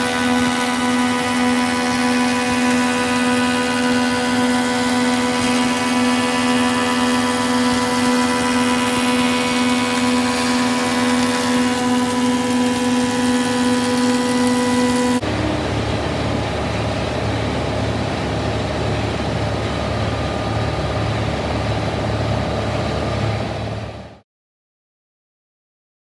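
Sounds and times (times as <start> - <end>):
rough machine noise with pulsing hum: 0.0 - 24.2
sawmill machinery whine: 0.0 - 24.2.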